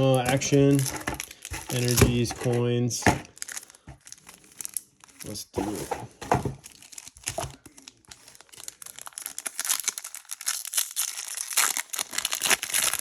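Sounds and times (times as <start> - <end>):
foil wrapper tearing and crinkling: 0.0 - 5.9, 6.6 - 13.0.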